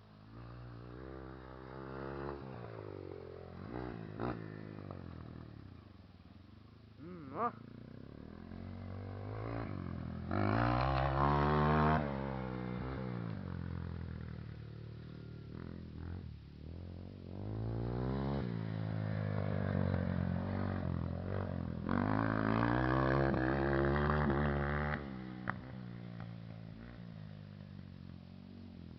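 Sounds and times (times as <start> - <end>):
dirt bike engines revving: 0.2 - 6.1, 6.9 - 28.9.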